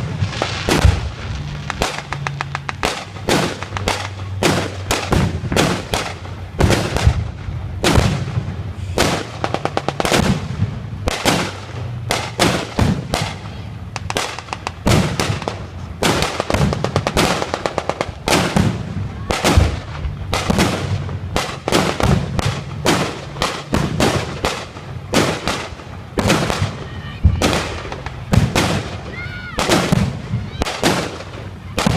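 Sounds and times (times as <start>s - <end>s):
heavy blasts: 0.0s - 31.9s.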